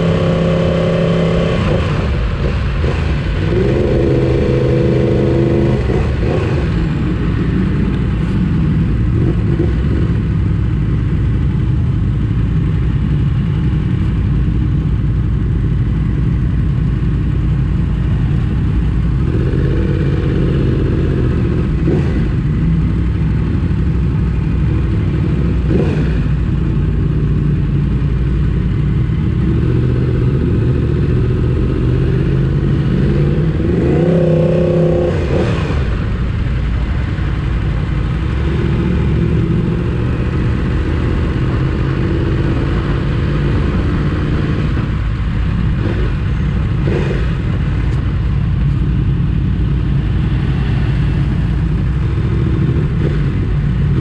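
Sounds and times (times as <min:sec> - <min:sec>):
motorcycle engine revving: 0:00.0 - 0:11.4, 0:15.6 - 0:54.0.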